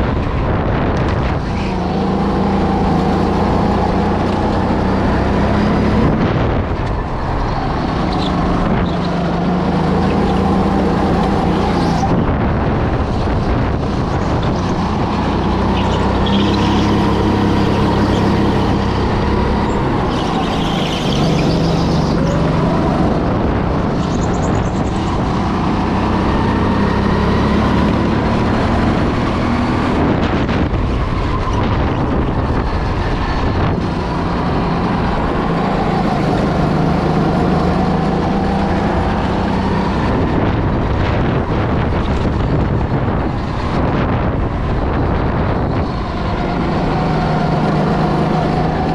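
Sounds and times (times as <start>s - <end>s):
go-kart engine revving: 1.0s - 48.9s.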